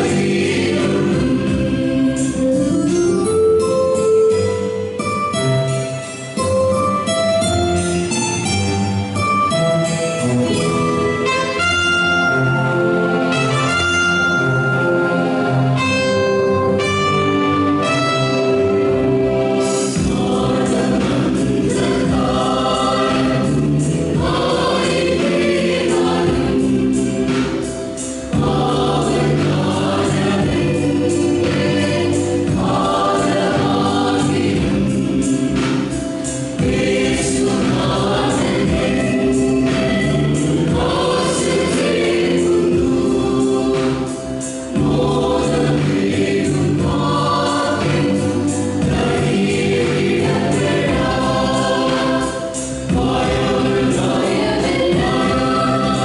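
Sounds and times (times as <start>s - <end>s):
mixed choir singing in harmony: 0.0s - 4.4s, 8.0s - 56.0s.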